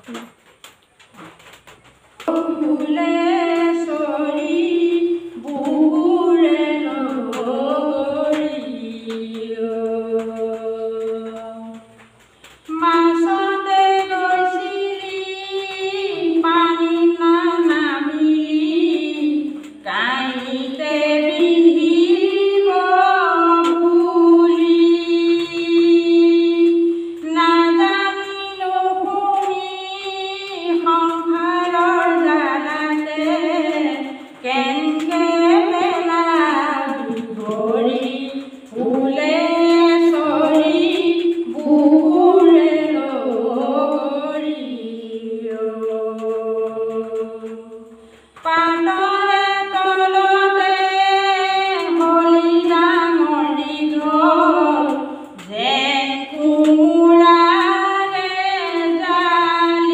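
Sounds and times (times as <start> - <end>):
woman singing unaccompanied: 2.2 - 59.9.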